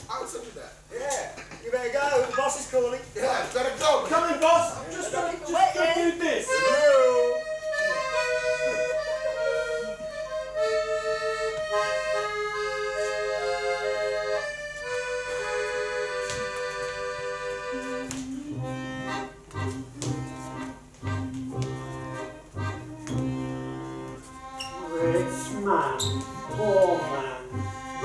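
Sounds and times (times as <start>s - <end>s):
accordion melody: 4.1s - 28.0s.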